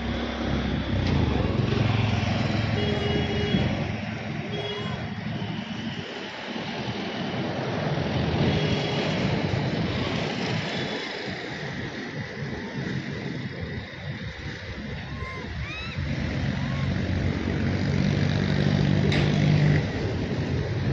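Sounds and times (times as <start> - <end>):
vehicle engine rumble: 0.0 - 20.9.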